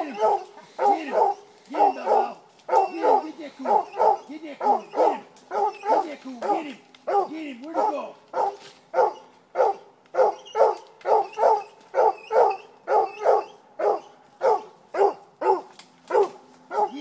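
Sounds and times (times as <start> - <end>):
dog barking sharply: 0.0 - 17.0.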